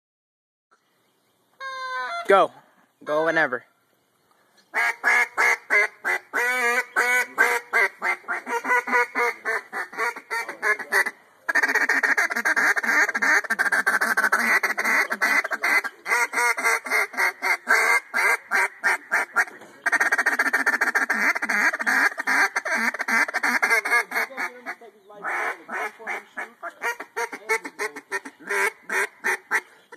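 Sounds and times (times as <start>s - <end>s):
duck call quacks: 4.8s - 29.7s
duck call rapid chatter: 4.8s - 29.8s.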